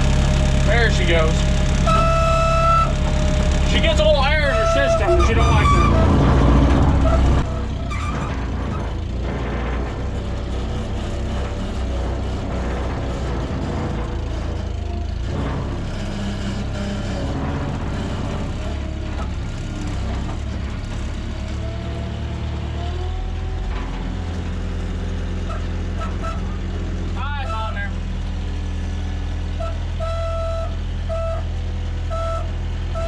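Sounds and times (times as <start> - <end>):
diesel truck engine droning: 0.0 - 33.0.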